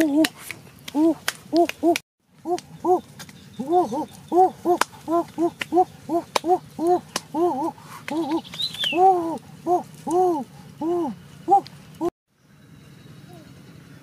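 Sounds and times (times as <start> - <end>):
man hooting through lips: 0.0 - 3.0, 3.6 - 12.1.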